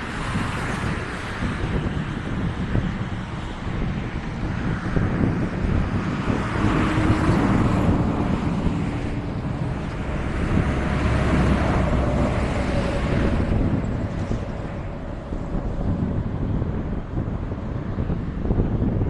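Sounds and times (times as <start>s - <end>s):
helicopter rumble: 0.0s - 19.0s
wind noise on microphone: 0.0s - 19.0s.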